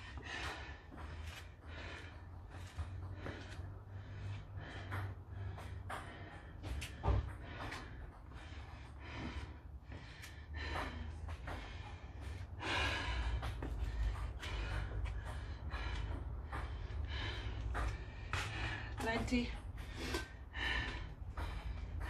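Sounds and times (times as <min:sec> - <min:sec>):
woman gasping breaths: 0:00.0 - 0:19.1, 0:19.7 - 0:22.0
steady low hum: 0:00.0 - 0:22.0.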